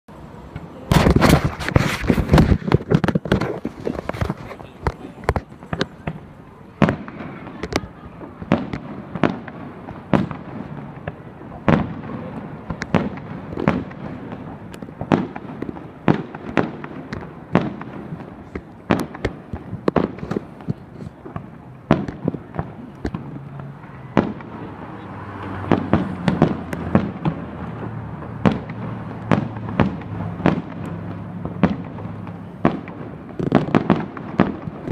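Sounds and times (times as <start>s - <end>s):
fireworks bangs: 0.1s - 34.9s
firework shells bursting: 0.5s - 24.8s, 25.6s - 34.9s.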